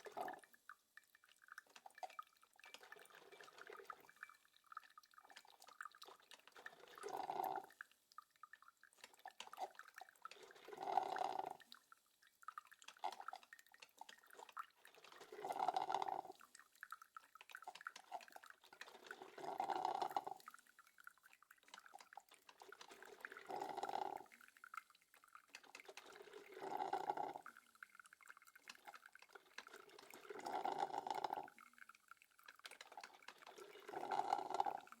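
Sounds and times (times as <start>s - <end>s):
coffee maker gurgling: 0.0s - 35.0s
faint drips and ticks: 0.0s - 35.0s.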